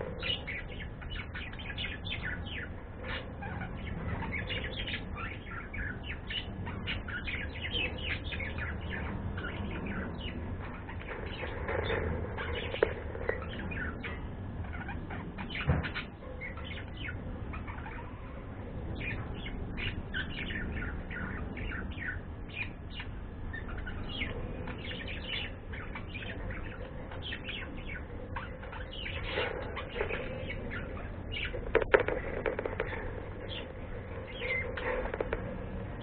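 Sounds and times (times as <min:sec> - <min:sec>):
pet birds chirping: 0:00.0 - 0:36.0.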